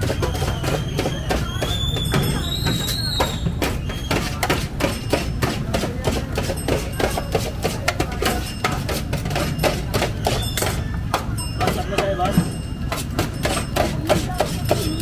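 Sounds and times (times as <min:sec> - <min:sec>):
knife chopping meat on metal pan: 0:00.0 - 0:15.0.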